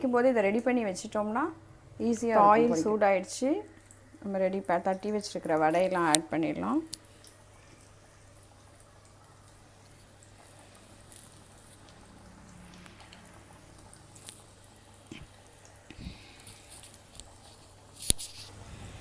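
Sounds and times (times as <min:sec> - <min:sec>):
frying in hot oil: 0:00.0 - 0:19.0.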